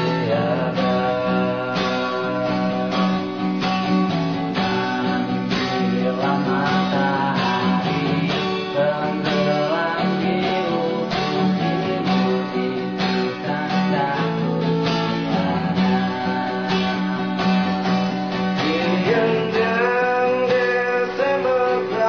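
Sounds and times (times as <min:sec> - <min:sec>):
background music with strummed guitar: 0:00.0 - 0:22.0.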